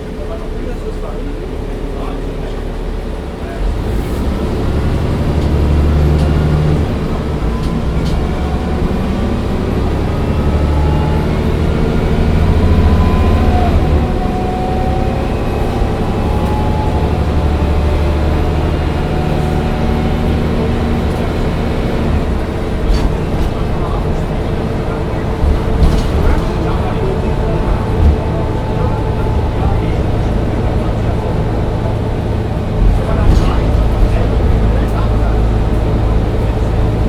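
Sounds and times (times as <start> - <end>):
bus engine drone: 0.0 - 37.0
drivetrain whine: 0.0 - 37.0.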